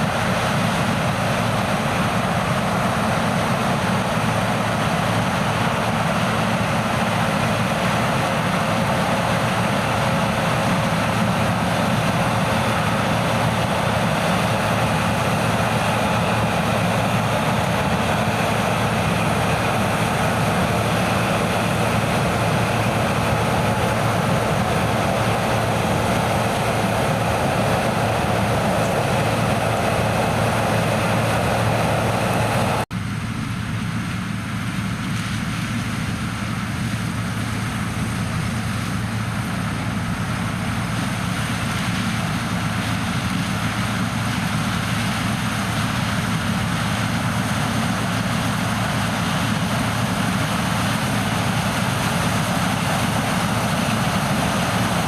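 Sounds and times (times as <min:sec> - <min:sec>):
diesel machinery engine hum: 0:00.0 - 0:55.0.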